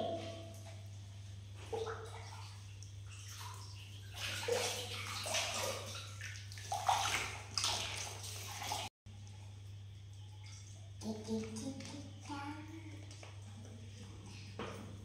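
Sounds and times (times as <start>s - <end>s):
water splashing in a bath: 0.0s - 15.0s.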